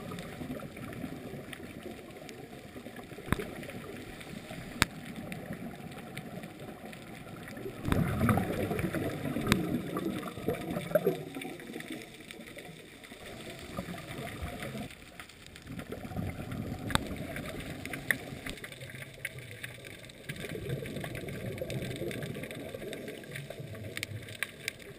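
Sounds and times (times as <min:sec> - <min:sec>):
underwater rush of water: 0:00.0 - 0:24.9.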